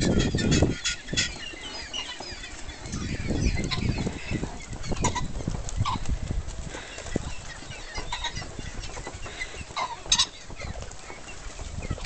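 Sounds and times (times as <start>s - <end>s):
pheasants squawking: 0.0s - 12.0s
wind rumbling on microphone: 0.0s - 12.0s.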